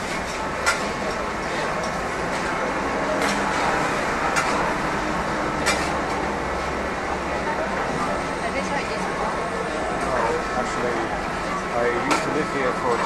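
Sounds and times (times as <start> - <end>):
wok burner roaring: 0.0 - 13.0.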